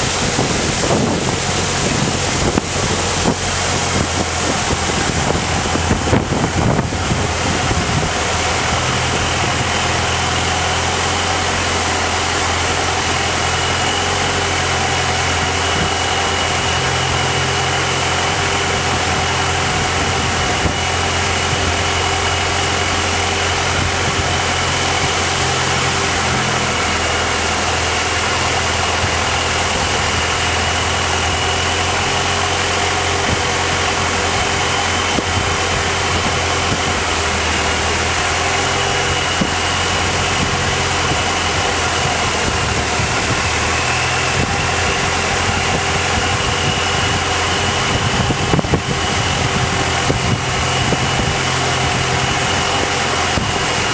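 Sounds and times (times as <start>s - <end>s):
boat engine droning: 0.0s - 53.9s.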